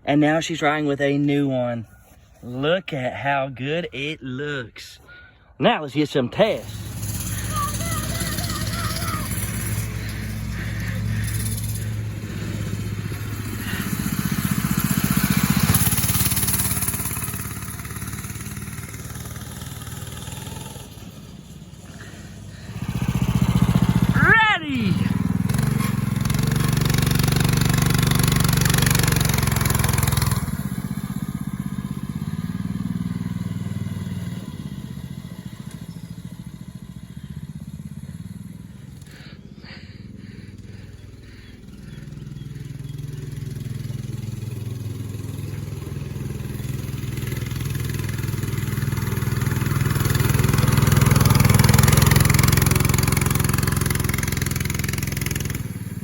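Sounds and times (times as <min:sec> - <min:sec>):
mini bike engine revving: 0:06.4 - 0:56.0.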